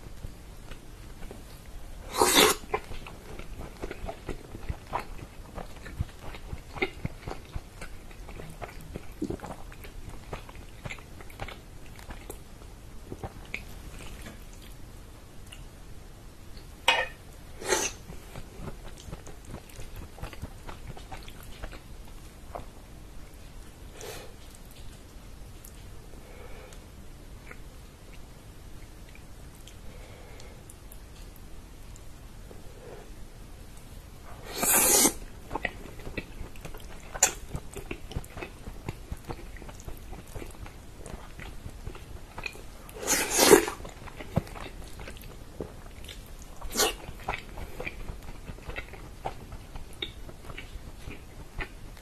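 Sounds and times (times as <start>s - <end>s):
close chewing and wet mouth sounds: 0.0s - 15.7s, 17.8s - 26.0s, 27.4s - 32.1s, 34.6s - 52.0s.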